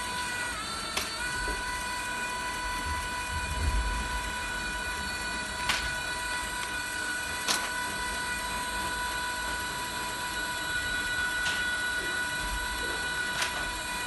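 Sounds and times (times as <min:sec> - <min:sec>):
vending machine drive whining: 0:00.0 - 0:14.0.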